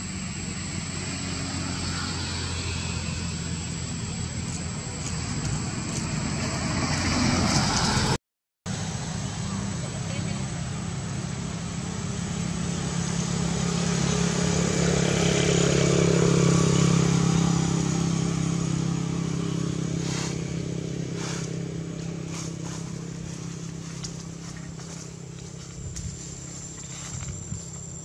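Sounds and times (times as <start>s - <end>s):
vehicle engine passing: 0.0s - 28.0s.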